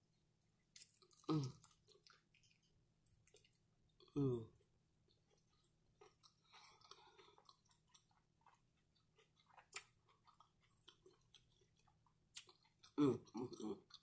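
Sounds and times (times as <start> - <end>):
person chewing: 0.7 - 14.0.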